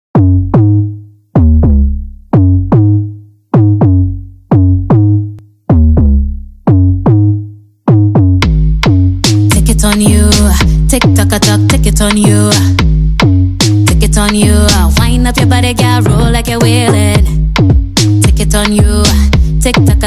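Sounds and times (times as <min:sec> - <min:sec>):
electronic drum beat: 0:03.6 - 0:20.0.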